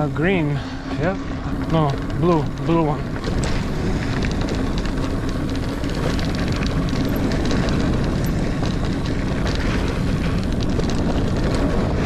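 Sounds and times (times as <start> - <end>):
bike tyres rumbling on dirt trail: 0.0 - 12.0
bike clicks and rattles: 1.4 - 12.0.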